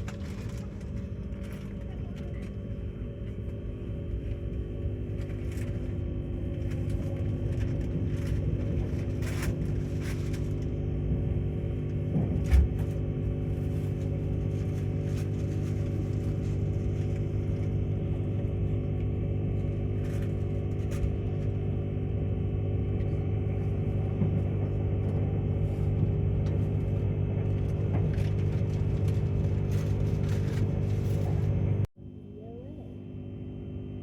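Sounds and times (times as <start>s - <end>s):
electric train rumble and hum: 0.0s - 34.0s.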